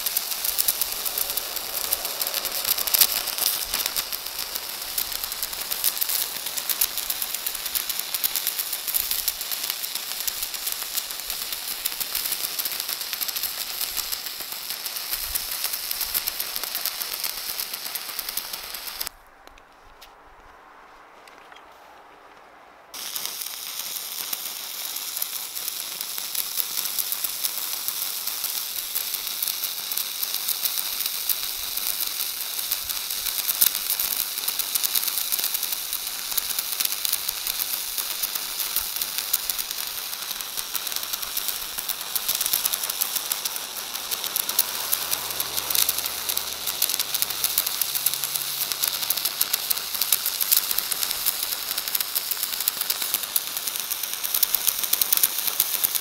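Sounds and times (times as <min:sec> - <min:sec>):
welding arc crackling: 0:00.0 - 0:19.2, 0:23.0 - 0:56.0.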